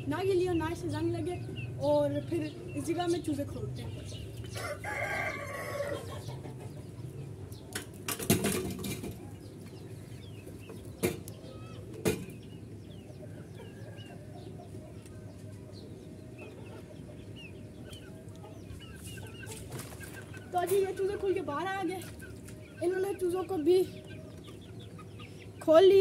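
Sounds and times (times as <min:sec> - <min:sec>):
chickens clucking: 0:00.0 - 0:26.0
chicks peeping: 0:00.0 - 0:26.0.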